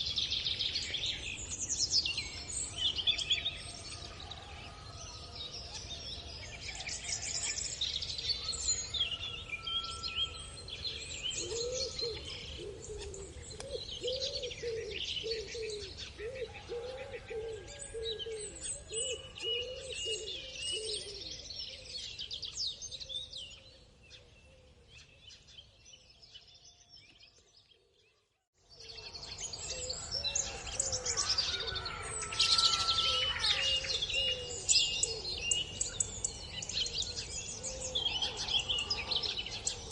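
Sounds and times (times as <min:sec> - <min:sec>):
low repeated bird calls: 0:00.0 - 0:39.9
birds chirping: 0:05.1 - 0:27.4, 0:28.7 - 0:39.9.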